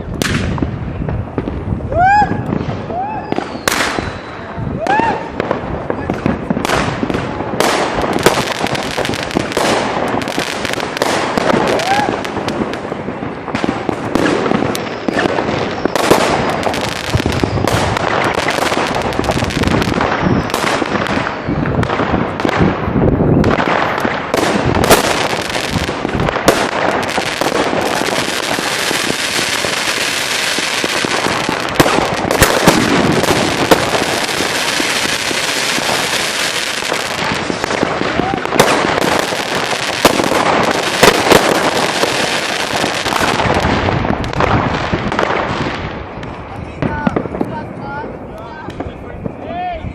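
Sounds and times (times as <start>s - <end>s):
fireworks and firecrackers banging: 0.0s - 49.9s
continuous crackle: 4.9s - 49.9s.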